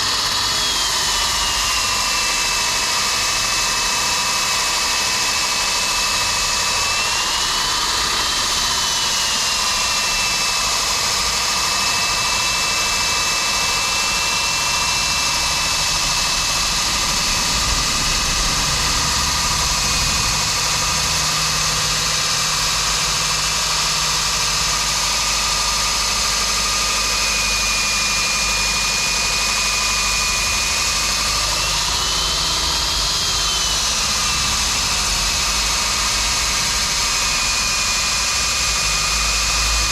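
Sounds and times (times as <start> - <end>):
core drill cutting concrete: 0.0 - 39.9.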